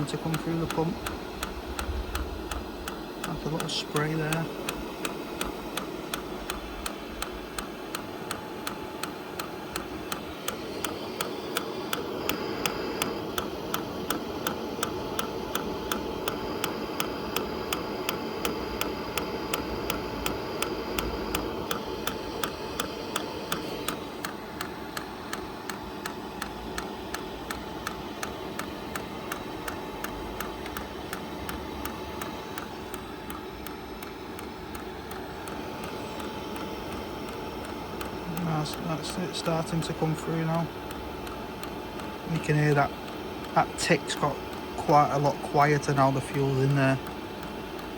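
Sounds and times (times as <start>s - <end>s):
fuel pump ticking: 0.0s - 47.9s
heater humming: 0.0s - 47.9s.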